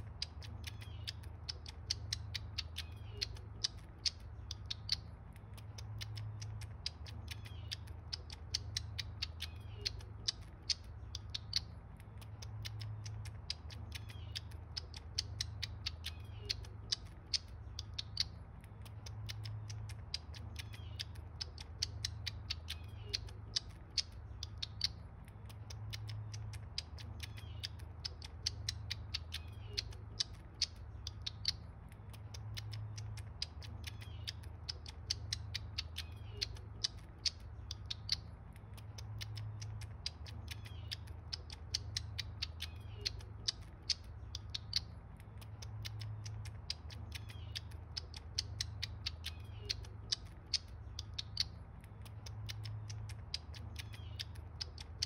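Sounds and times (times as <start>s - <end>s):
squirrel sucking clicks: 0.0s - 55.0s.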